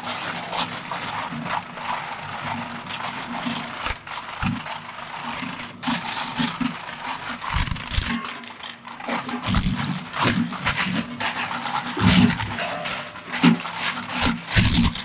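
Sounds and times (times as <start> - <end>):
shredder grinding plastic: 0.0 - 15.0.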